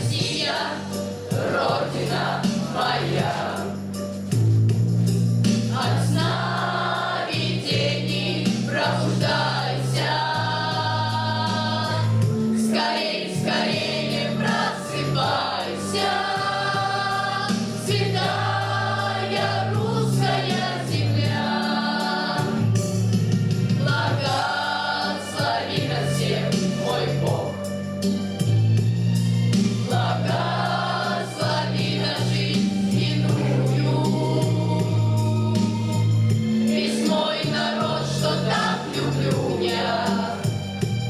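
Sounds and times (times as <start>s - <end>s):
choir singing: 0.0s - 3.9s, 5.6s - 22.9s, 23.7s - 27.6s, 29.7s - 40.6s.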